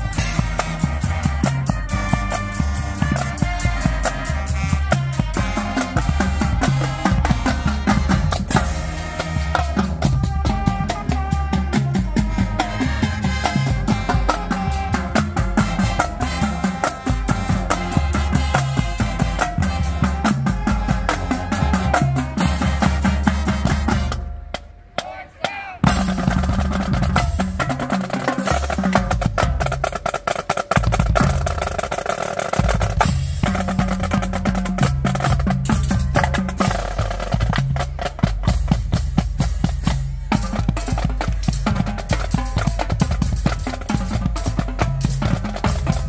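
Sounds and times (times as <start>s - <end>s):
bass drums: 0.0s - 25.1s, 25.8s - 46.0s
tenor drums: 0.0s - 46.0s.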